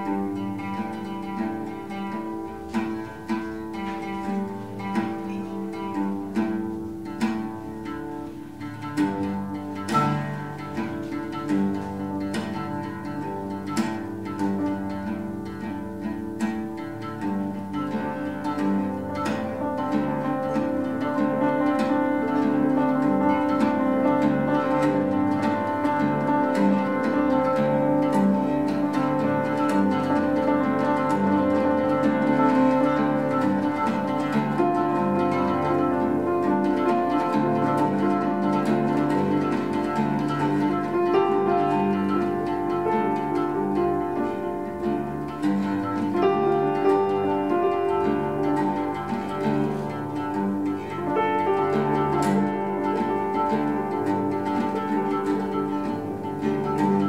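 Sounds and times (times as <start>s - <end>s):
oud plucked notes: 0.0s - 57.0s
piano chords: 0.0s - 57.0s.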